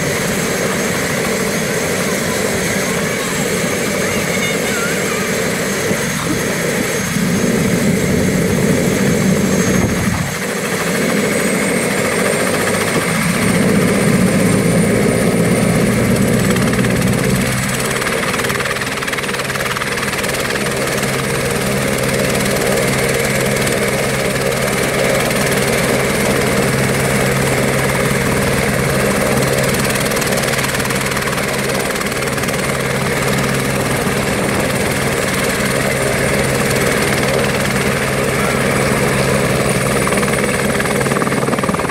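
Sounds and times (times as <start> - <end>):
helicopter turbine whine and rotor: 0.0 - 41.9.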